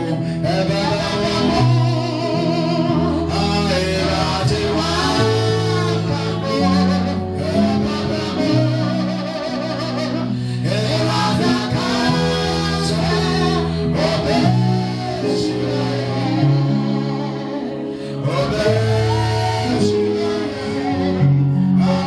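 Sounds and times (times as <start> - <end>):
guitar: 0.0 - 22.0
held bass notes: 0.0 - 22.0
person singing: 0.0 - 22.0.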